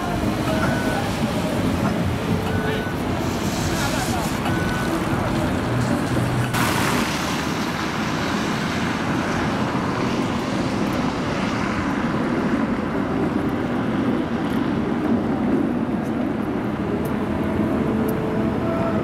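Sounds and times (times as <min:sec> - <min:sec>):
city traffic: 0:00.0 - 0:19.0
tram wheels and motors: 0:00.0 - 0:19.0.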